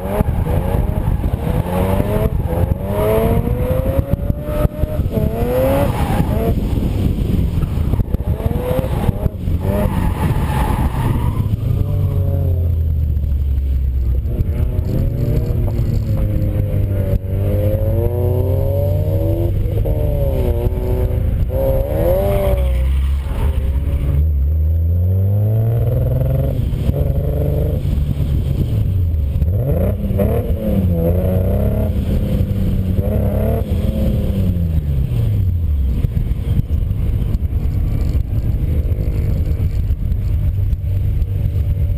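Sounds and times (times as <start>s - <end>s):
misfiring car engine revving: 0.0s - 36.2s.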